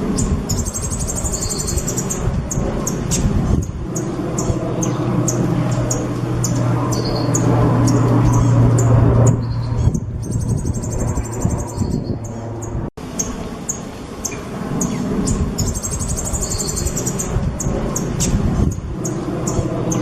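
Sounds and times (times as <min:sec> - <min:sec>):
songbird chirping and trilling: 0:00.0 - 0:20.0
steady low hum: 0:00.0 - 0:20.0.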